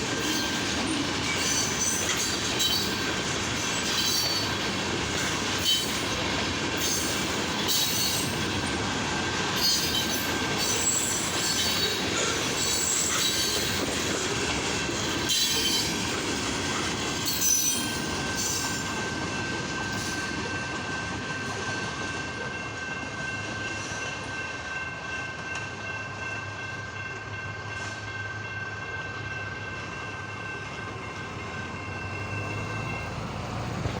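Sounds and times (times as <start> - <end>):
wheels squealing on rails: 0.0 - 24.9, 27.0 - 34.0
freight train cars rolling: 0.0 - 34.0.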